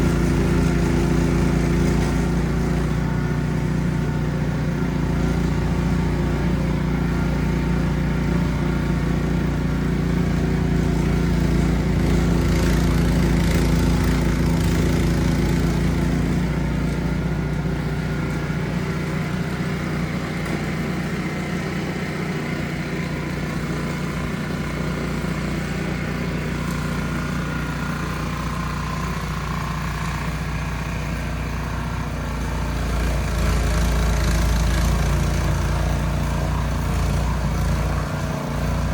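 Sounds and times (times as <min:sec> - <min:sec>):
snow blower engine running: 0:00.0 - 0:38.9.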